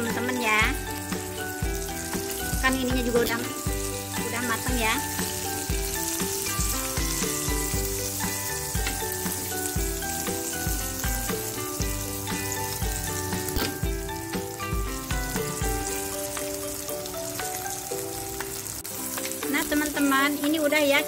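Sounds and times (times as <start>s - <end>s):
background music with beat: 0.0s - 20.1s
ribs sizzling on a grill pan: 0.0s - 21.0s.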